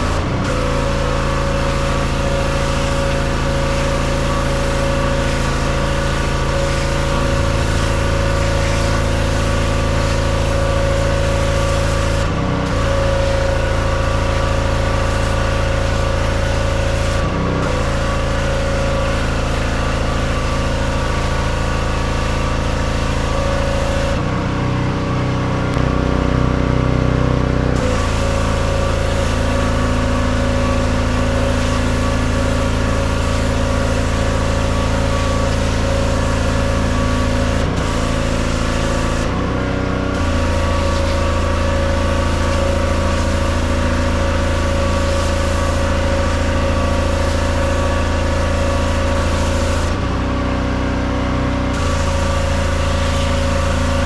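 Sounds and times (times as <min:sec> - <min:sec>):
high-pressure spray hissing: 0:00.0 - 0:24.2, 0:27.8 - 0:50.0, 0:51.7 - 0:54.0
pressure washer engine running: 0:00.0 - 0:54.0.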